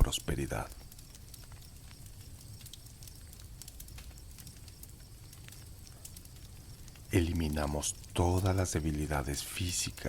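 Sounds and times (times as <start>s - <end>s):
campfire crackling: 0.0s - 10.0s
crickets chirping: 0.0s - 10.0s.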